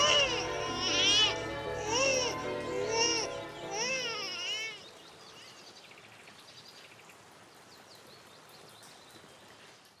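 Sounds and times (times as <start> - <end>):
birds chirping: 0.0 - 10.0
faint outdoor background noise: 0.0 - 10.0.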